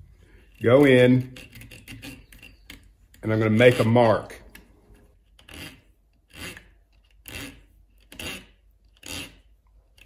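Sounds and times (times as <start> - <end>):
hacksaw rasping on wire: 0.4 - 4.2, 5.3 - 10.0.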